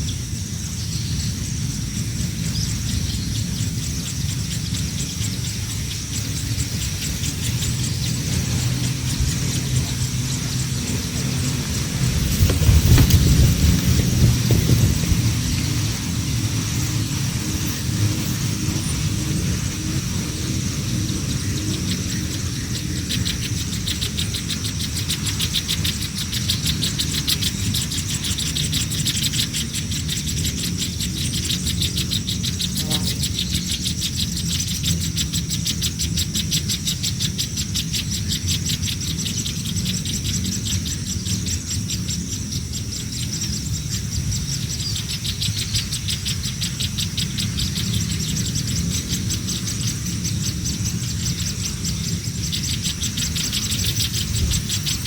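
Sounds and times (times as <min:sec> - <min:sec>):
steady low rumble: 0:00.0 - 0:55.0
nestlings chirping: 0:02.4 - 0:55.0.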